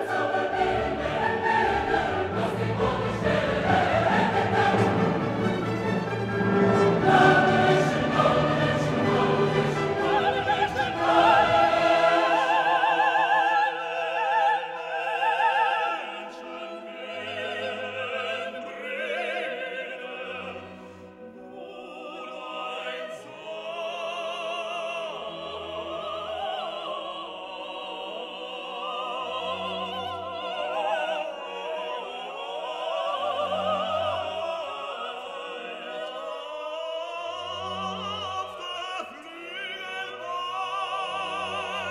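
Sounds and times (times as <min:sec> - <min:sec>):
operatic singing with orchestra: 0:00.0 - 0:41.9.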